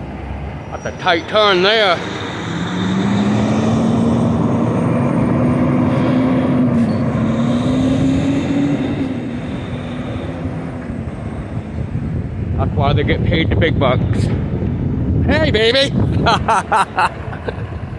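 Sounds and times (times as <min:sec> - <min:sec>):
diesel truck engine drone: 0:00.0 - 0:17.9
tyre and road noise: 0:00.0 - 0:17.9.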